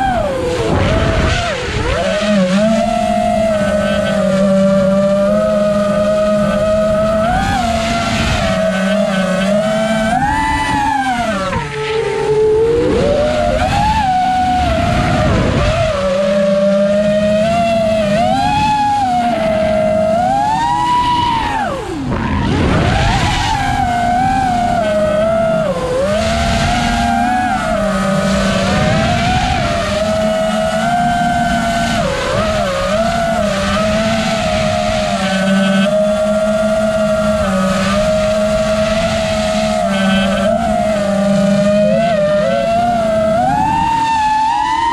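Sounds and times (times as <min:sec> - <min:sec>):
drone propellers whining: 0:00.0 - 0:44.9.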